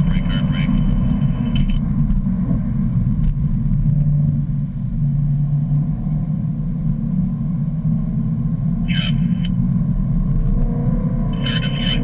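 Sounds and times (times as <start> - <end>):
engine drone from inside cabin: 0.0 - 12.0
road and tyre noise: 0.0 - 12.0.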